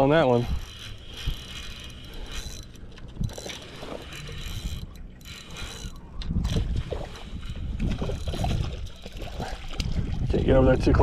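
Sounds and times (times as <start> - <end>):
fishing reel gears whirring: 0.0 - 9.5.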